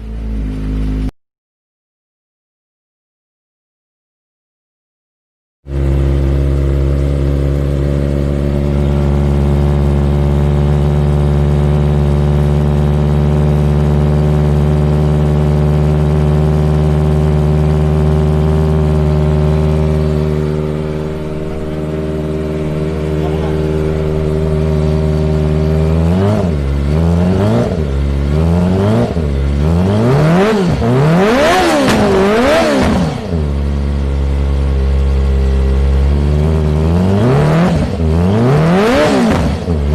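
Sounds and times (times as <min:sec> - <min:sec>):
motorcycle engine revving: 0:05.7 - 0:39.9.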